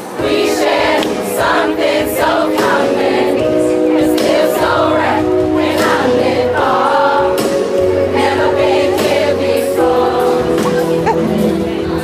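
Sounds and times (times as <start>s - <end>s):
band playing through loudspeakers: 0.0s - 12.0s.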